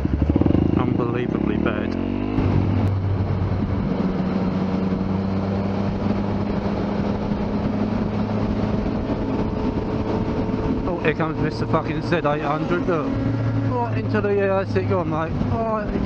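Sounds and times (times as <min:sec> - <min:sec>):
motorcycle engine running: 0:00.0 - 0:16.0
wind rushing: 0:02.0 - 0:16.0.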